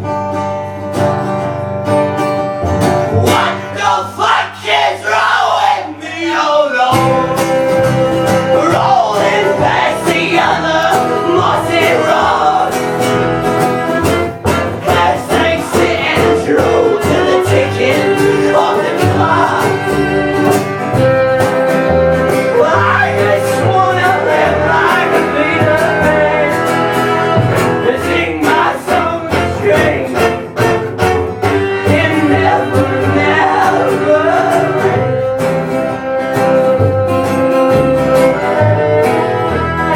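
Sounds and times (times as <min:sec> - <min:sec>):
band playing bluegrass on strings: 0:00.0 - 0:39.9.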